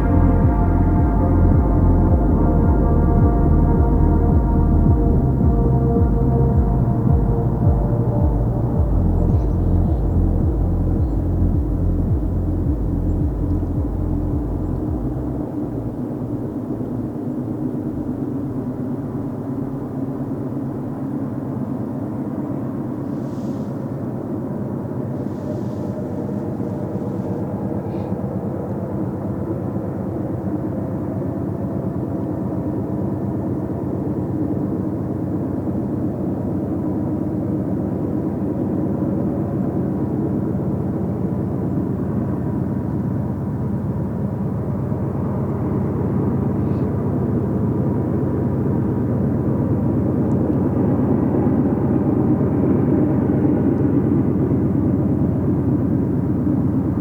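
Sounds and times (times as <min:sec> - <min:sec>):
passing train: 0:00.0 - 0:57.0.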